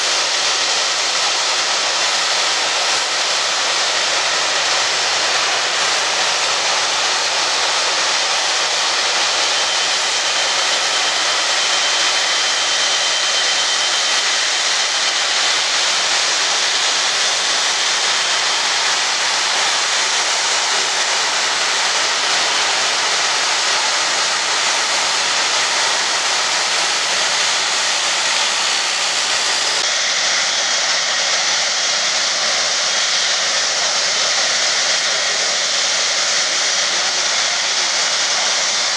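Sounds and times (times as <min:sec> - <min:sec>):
jet engines at taxi power: 0:00.0 - 0:38.9.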